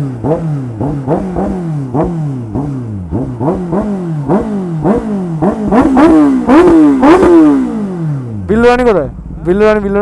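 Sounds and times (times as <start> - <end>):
motorcycle engine revving: 0.0 - 9.3.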